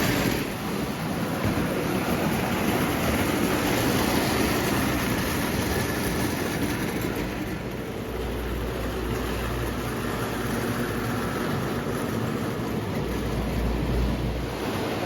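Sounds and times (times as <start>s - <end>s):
toy train whirring rattle: 0.0s - 14.2s.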